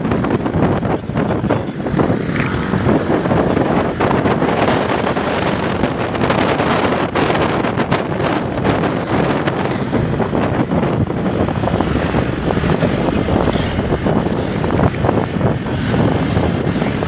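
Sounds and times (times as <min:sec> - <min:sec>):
motorcycle rumble: 0:00.0 - 0:17.0
passing traffic: 0:00.0 - 0:17.0
wind buffeting microphone: 0:00.0 - 0:17.0.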